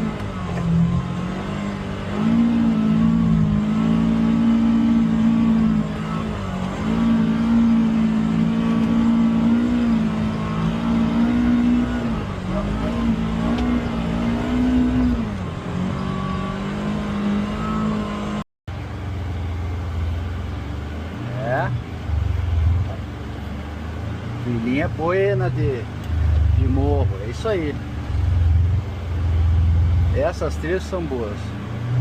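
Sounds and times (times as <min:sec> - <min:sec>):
utility vehicle engine under load: 0:00.0 - 0:32.0.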